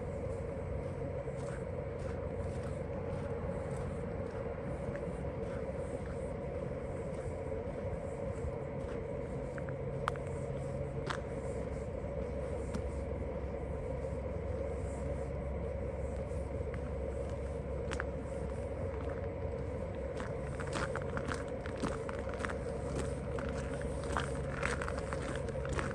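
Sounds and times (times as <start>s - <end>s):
distant traffic hum: 0.0s - 25.9s.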